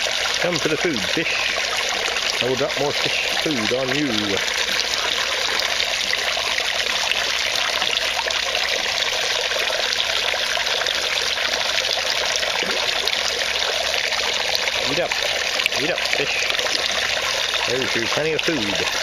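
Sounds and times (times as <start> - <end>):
water trickling into water: 0.0 - 19.0.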